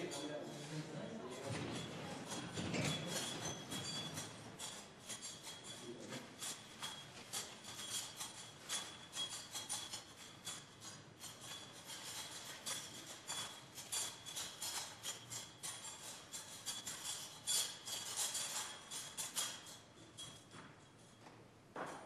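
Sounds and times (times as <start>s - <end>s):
faint music with jingling percussion: 0.0s - 21.3s.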